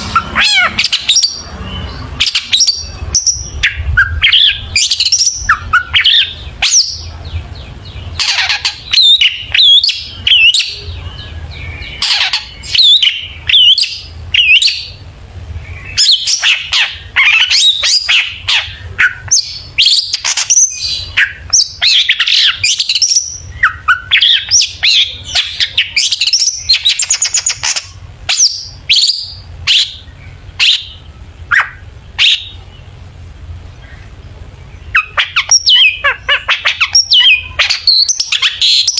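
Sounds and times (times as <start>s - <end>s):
shrike singing chirps and trills: 0.0s - 33.1s, 33.7s - 38.9s.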